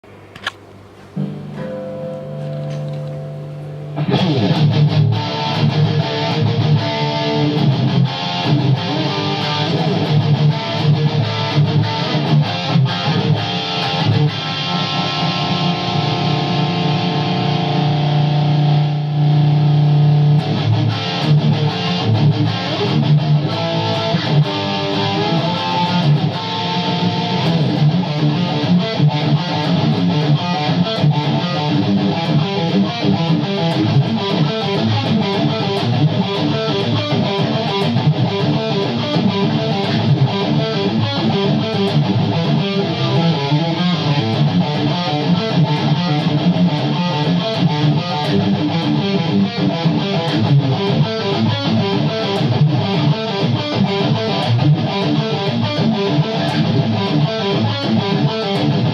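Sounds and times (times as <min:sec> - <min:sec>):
distorted electric guitar riffing: 0:01.0 - 0:58.9.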